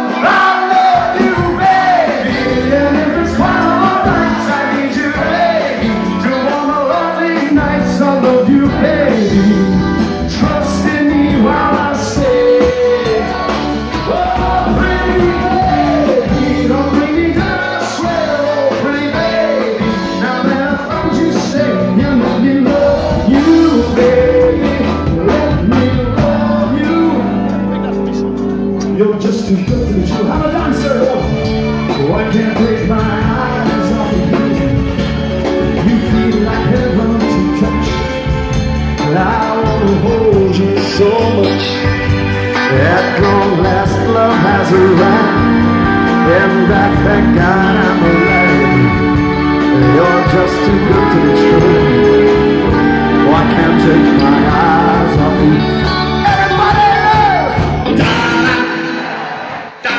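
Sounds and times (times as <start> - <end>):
live band playing pop song: 0.0 - 59.9
person singing: 0.0 - 59.9.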